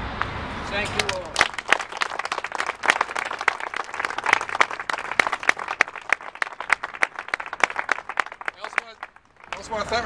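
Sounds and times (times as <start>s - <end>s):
group applauding: 1.0s - 10.0s.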